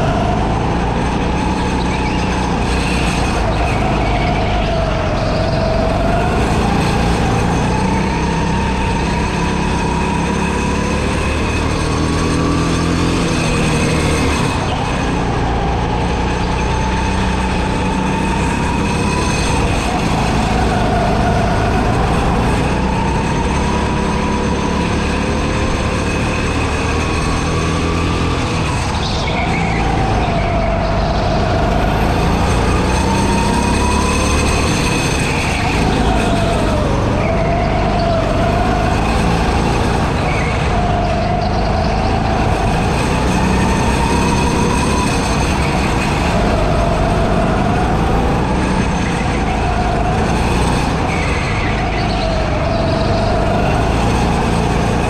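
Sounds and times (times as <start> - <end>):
go-kart engine whine: 0.0 - 55.0.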